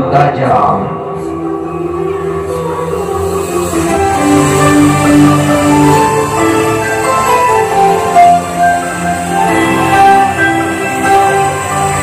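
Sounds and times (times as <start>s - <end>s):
background music with long held notes: 0.0s - 12.0s.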